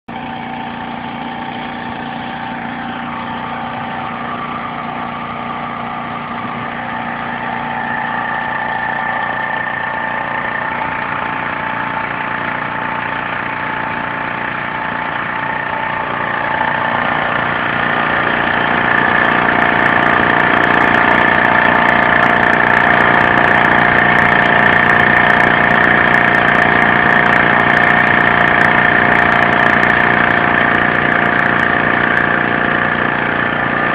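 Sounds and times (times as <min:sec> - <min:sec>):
alternator whine: 0:00.1 - 0:33.9
generator engine running: 0:00.1 - 0:33.9.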